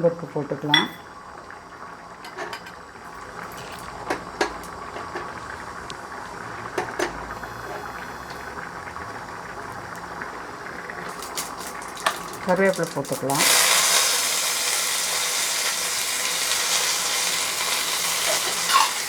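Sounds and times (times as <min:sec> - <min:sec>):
seeds sizzling in hot oil: 0:02.9 - 0:19.0.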